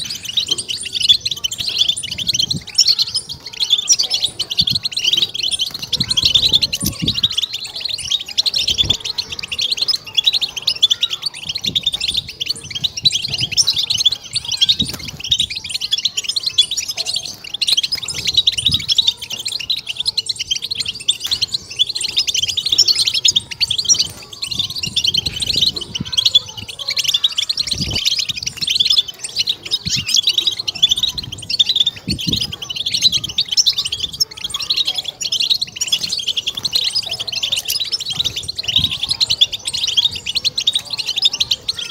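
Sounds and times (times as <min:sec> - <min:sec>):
goldfinch singing: 0:00.0 - 0:41.9.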